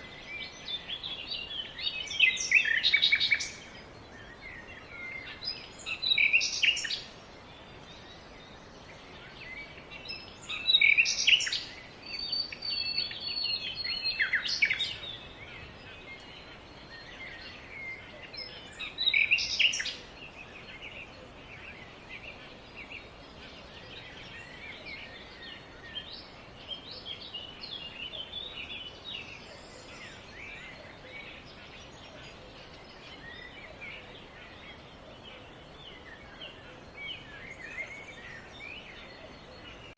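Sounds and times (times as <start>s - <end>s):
birds calling and chirping: 0.0s - 39.9s
faint background hiss: 0.0s - 39.9s.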